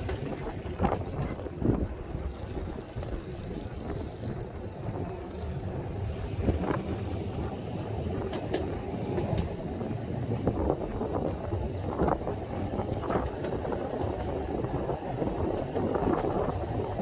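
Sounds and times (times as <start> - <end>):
tram wheels rumbling: 0.0 - 17.0
wind buffeting microphone: 0.0 - 17.0.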